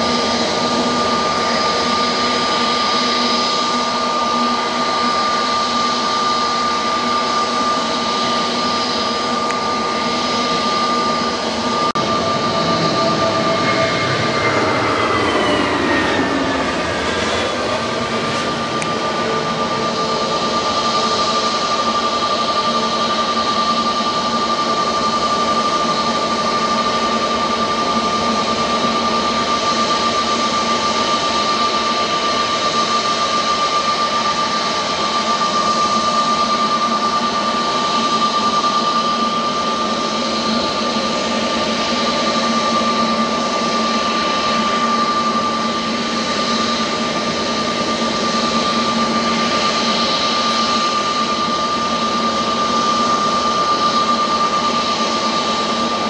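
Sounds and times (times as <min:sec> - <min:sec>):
jet engine whine and rush: 0:00.0 - 0:56.0.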